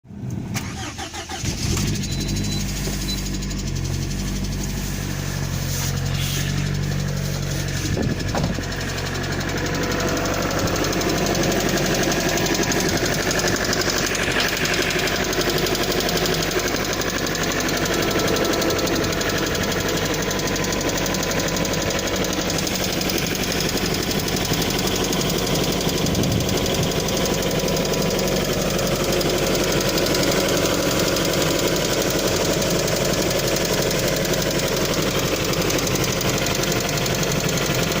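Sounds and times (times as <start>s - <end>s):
car engine running: 0.1s - 38.0s
fast ticking lifter clatter: 1.5s - 5.5s, 6.5s - 38.0s.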